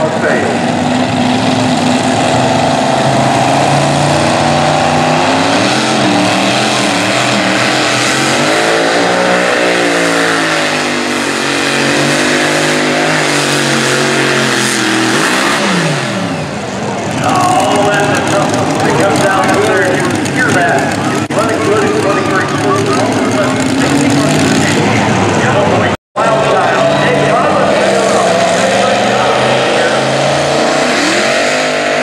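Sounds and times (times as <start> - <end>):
truck engine revving under load: 0.0 - 32.0.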